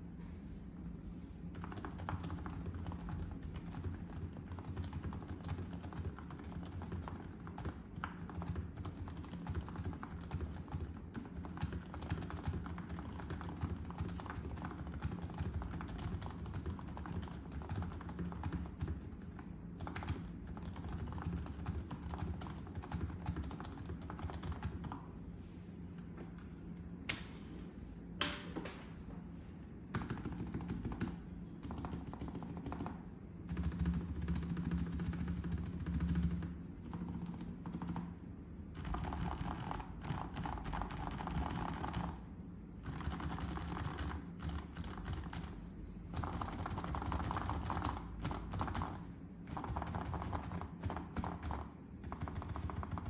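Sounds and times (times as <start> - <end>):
keyboard typing: 1.6 - 25.0, 29.9 - 42.2, 42.8 - 53.0.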